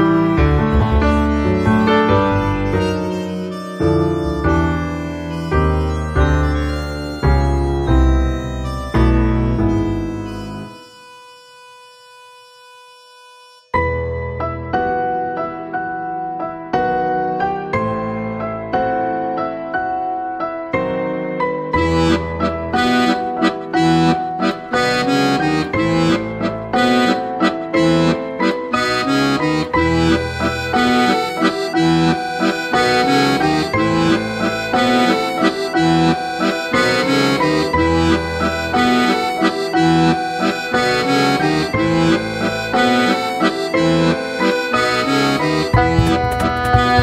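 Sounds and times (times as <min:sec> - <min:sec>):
instrumental background music: 0:00.0 - 0:47.0.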